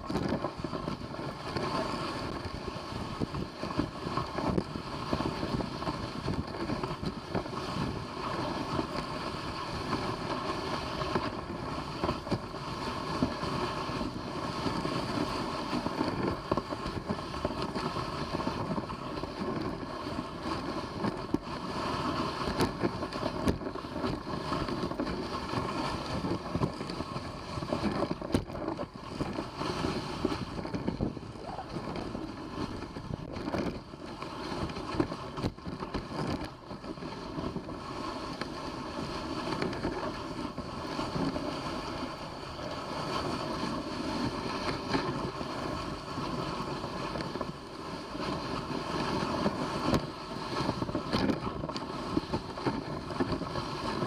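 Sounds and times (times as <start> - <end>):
sled rushing scrape: 0.0 - 54.0
wind on microphone: 0.0 - 54.0.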